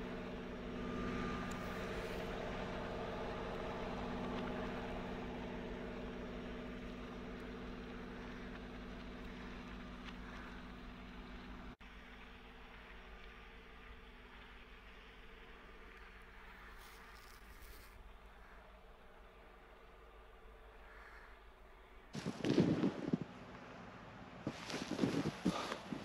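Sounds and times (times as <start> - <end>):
locomotive engine hum: 0.0 - 26.0.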